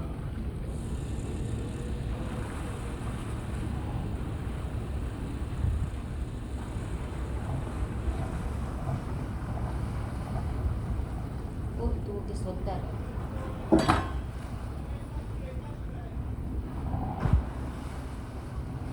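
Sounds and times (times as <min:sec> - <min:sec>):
sea noise: 0:00.0 - 0:18.9
wind buffeting microphone: 0:00.0 - 0:18.9.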